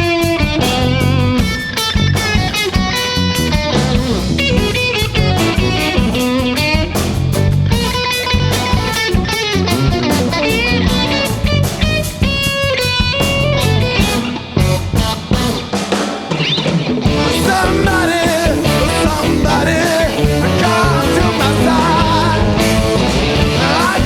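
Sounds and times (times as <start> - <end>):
bass guitar: 0.0 - 24.0
drum kit: 0.0 - 24.0
electric guitar solo: 0.0 - 24.0.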